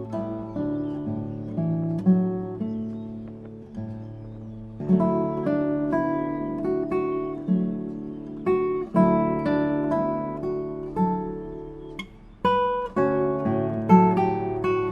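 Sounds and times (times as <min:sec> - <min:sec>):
acoustic guitar strumming chords: 0:00.0 - 0:14.9.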